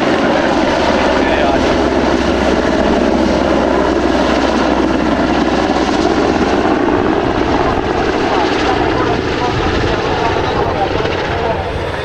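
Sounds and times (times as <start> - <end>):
helicopter rotor beating: 0.0 - 12.0
helicopter turbines: 0.0 - 12.0.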